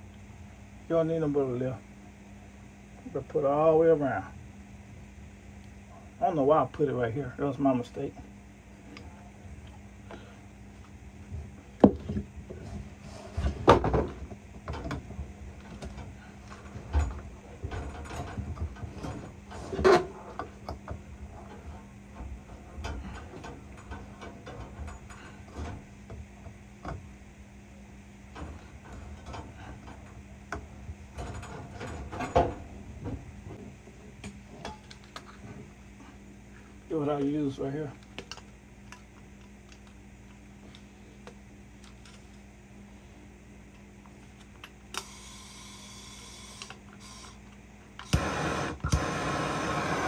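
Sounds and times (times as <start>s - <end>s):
faint low hum: 0.0s - 50.0s.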